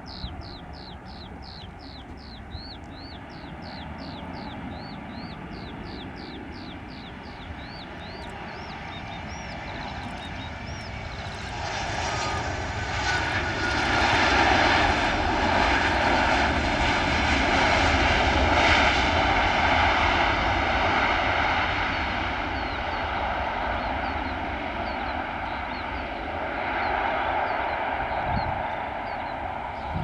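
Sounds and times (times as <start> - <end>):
airliner engines passing by: 0.0 - 30.0.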